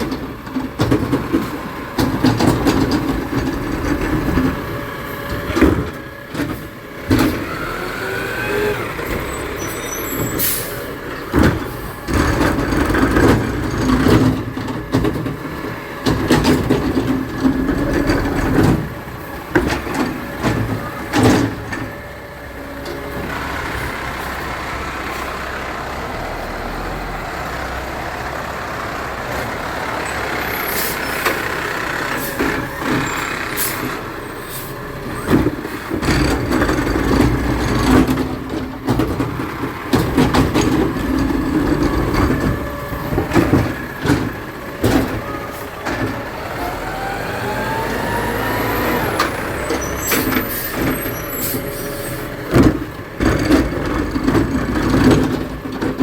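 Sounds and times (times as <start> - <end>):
garbage truck engine: 0.0 - 56.0.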